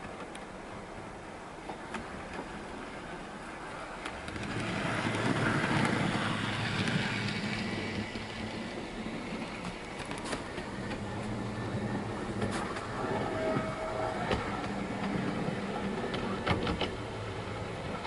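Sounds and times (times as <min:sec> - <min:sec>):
wheels rattling on rail: 0:00.0 - 0:18.0
model locomotive motor hum: 0:03.4 - 0:18.0.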